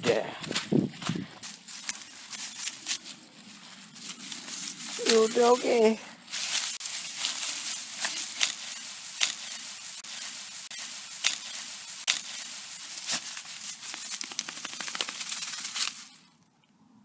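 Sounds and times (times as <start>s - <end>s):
footsteps crunching through undergrowth: 0.0s - 16.3s
steady rustle: 0.4s - 16.4s.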